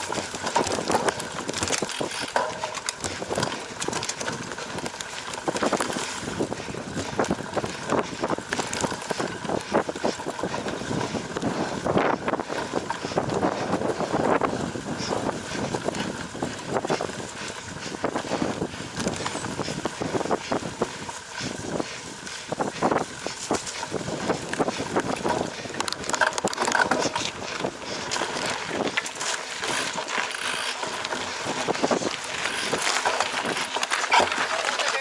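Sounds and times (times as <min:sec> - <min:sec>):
wind rushing on microphone: 0:00.0 - 0:29.0, 0:31.1 - 0:34.4
bike rattling and knocking: 0:00.0 - 0:35.0.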